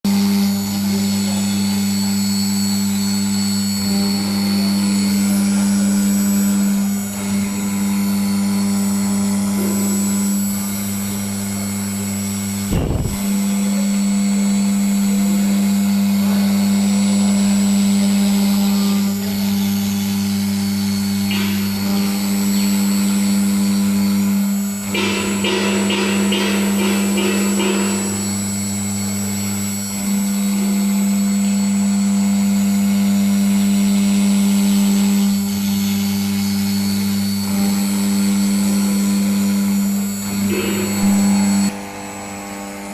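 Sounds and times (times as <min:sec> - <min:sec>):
router spindle humming and whining: 0:00.1 - 0:42.9.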